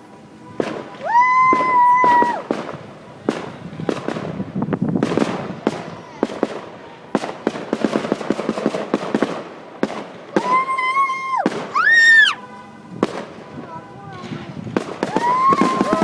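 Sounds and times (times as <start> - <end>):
fireworks crackle: 0.0 - 16.0
fireworks bangs and pops: 0.3 - 16.0.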